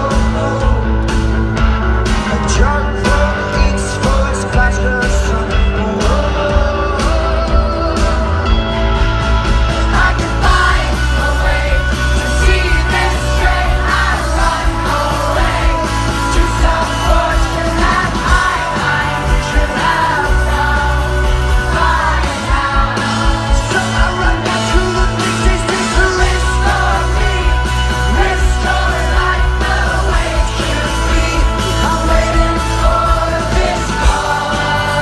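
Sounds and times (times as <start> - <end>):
live rock band playing: 0.0 - 35.0
person singing: 2.1 - 9.0, 9.8 - 35.0.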